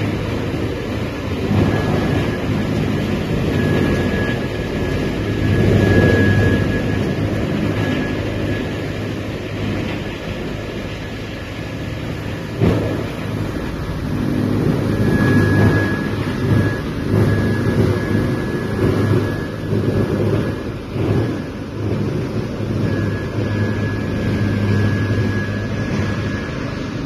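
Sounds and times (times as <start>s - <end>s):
wood chipper humming: 0.0s - 27.0s.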